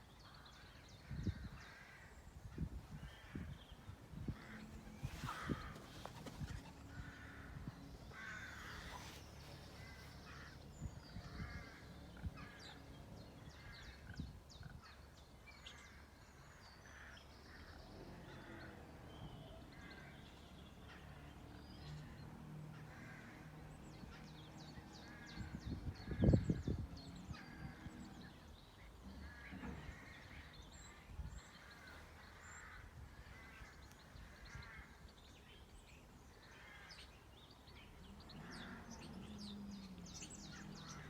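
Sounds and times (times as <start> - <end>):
birds chirping and trilling: 0.0 - 41.0.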